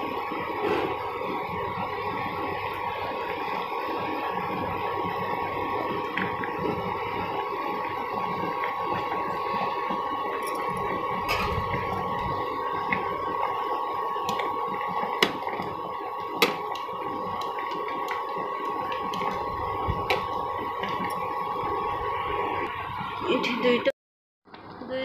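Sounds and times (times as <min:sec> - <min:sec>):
gravy simmering and bubbling: 0:00.0 - 0:23.2.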